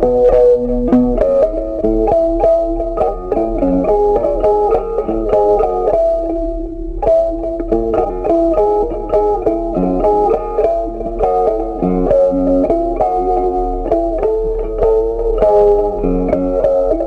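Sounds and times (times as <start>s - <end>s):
guitar picking a melody: 0.0s - 17.0s.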